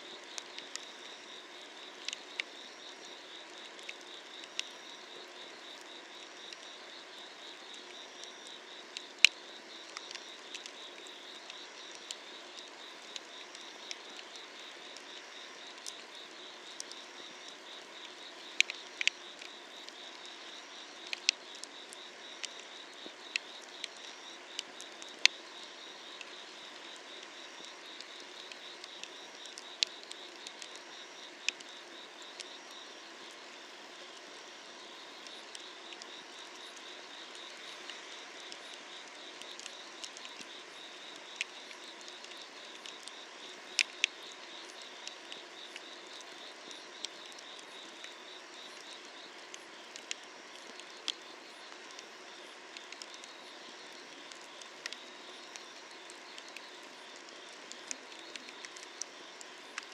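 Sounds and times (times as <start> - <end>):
crickets chirping: 0.0 - 59.9
firewood crackling and popping: 5.6 - 33.4, 35.2 - 59.9.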